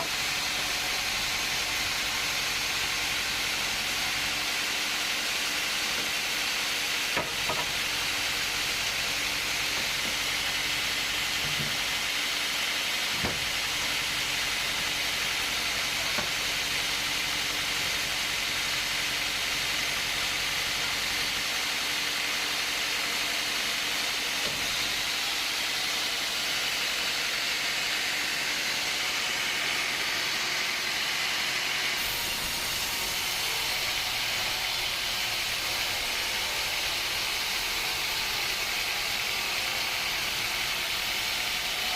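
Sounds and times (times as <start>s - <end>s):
hissing machine noise: 0.0s - 41.9s.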